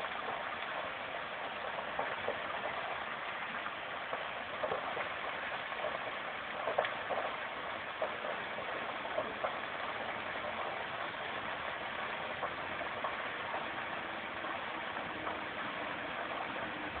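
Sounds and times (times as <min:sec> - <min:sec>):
fire cracks and pops: 0:00.0 - 0:17.0.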